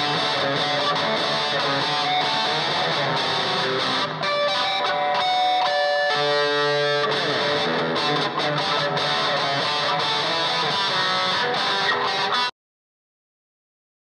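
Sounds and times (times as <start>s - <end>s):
electric guitar playing: 0.0s - 12.5s.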